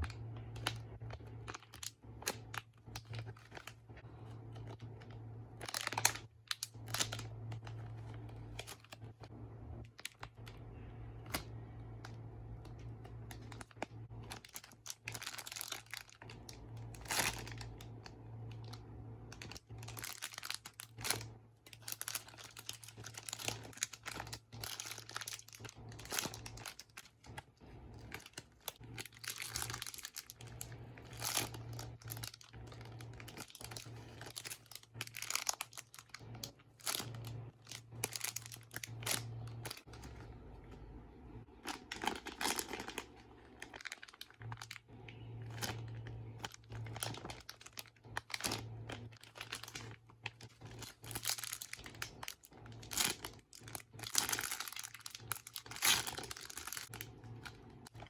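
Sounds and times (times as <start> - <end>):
plastic packaging crinkling: 0.0 - 58.0
steady low hum: 0.0 - 58.0.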